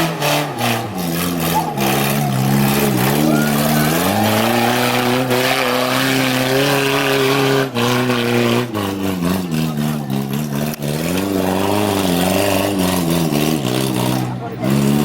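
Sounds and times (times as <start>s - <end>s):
engine revving hard: 0.0s - 15.0s.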